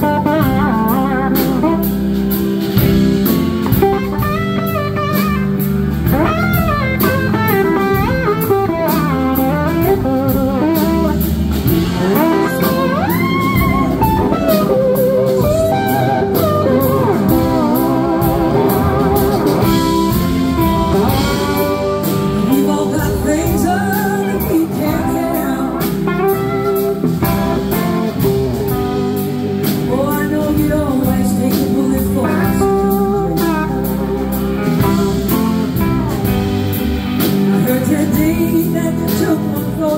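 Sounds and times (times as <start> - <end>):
bass guitar: 0.0 - 39.9
drums: 0.0 - 39.9
electric guitar slide lead: 0.0 - 39.9
rhythm electric guitar: 0.0 - 39.9.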